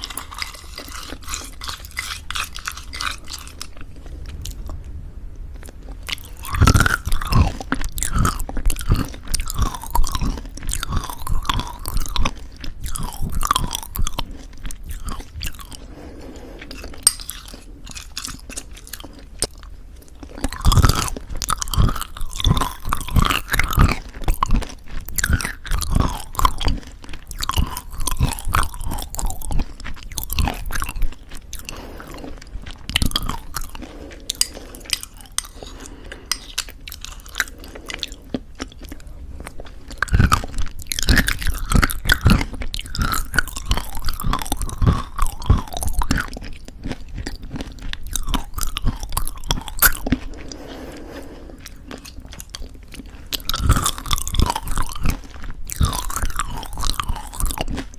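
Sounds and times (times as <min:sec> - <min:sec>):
crunchy chewing of granola: 0:00.0 - 0:57.9.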